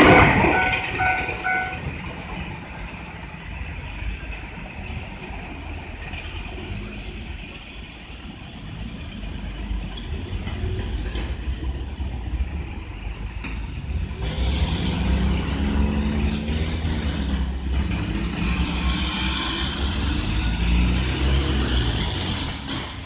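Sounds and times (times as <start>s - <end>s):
train running: 0.0s - 23.0s.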